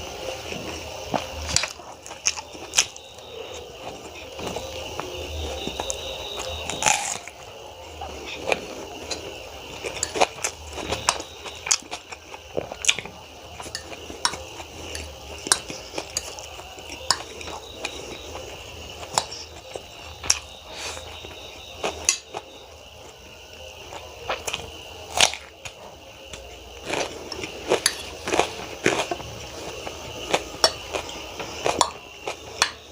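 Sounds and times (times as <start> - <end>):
chewing and biting: 0.4 - 32.9.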